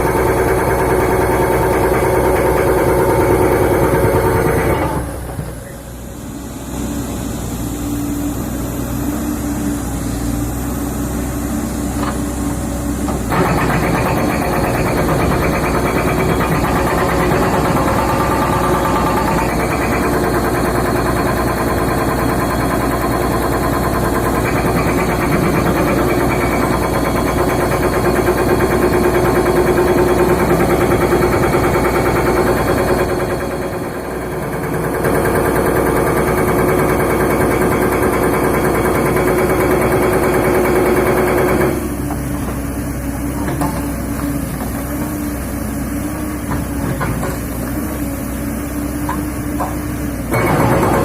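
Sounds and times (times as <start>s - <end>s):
excavator diesel engine revving: 0.0s - 51.0s.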